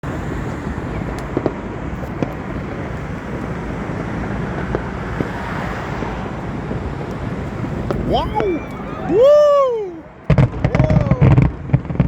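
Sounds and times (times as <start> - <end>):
expressway traffic rumble: 0.0 - 12.0
wind on microphone: 0.0 - 12.0.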